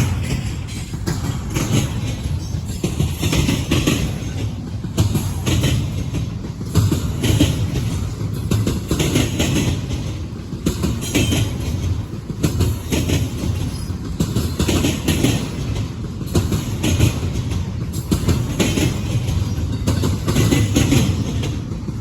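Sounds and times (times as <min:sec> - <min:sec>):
train low rumble: 0:00.0 - 0:22.0
train wheels clacking over rail joints: 0:00.0 - 0:22.0.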